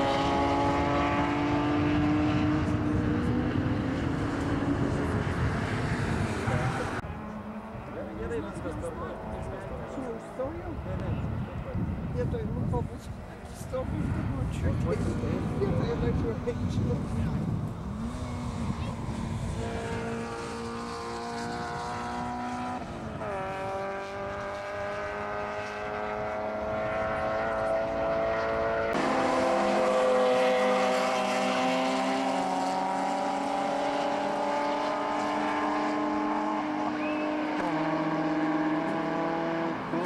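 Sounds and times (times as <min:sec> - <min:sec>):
racing car engines accelerating: 0:00.0 - 0:40.0.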